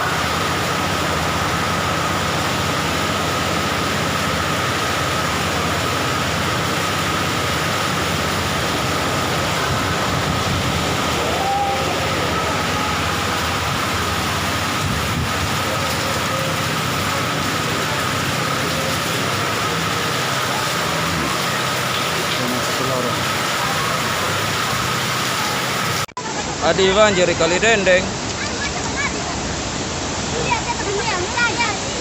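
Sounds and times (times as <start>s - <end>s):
heavy rain: 0.0s - 32.0s
running floodwater: 0.0s - 32.0s.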